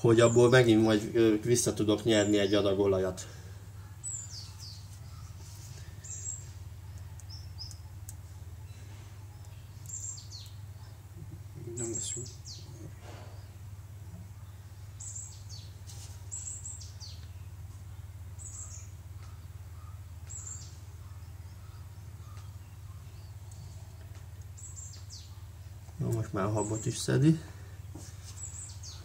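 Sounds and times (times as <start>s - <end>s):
steady low hum: 0.0s - 29.0s
small bird chirping: 3.7s - 29.0s.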